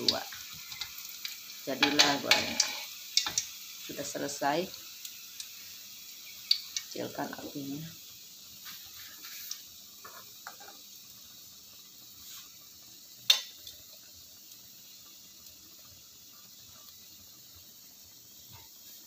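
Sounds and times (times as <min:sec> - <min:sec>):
cooking oil sizzling: 0:00.0 - 0:19.0.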